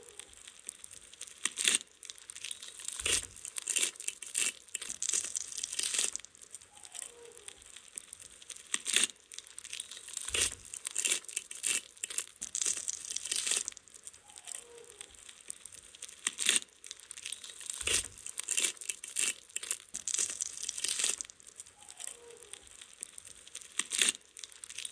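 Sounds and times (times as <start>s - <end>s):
fire crackling and hissing: 0.0s - 24.9s.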